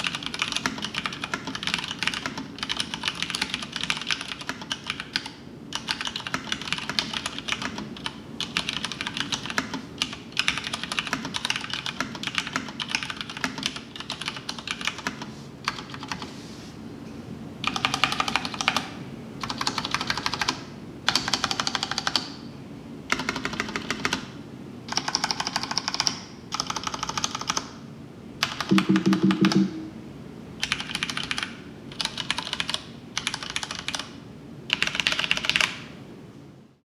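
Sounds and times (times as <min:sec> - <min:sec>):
typing on mechanical keyboard: 0:00.0 - 0:16.2, 0:17.6 - 0:22.3, 0:23.1 - 0:24.2, 0:24.9 - 0:27.7, 0:28.4 - 0:29.8, 0:30.6 - 0:34.1, 0:34.7 - 0:35.8.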